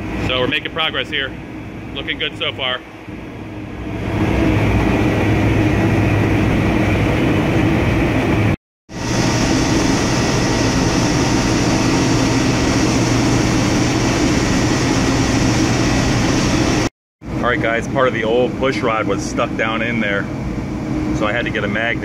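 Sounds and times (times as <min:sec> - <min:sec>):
diesel generators running: 0:00.0 - 0:22.0
ship engine room drone: 0:00.0 - 0:22.0.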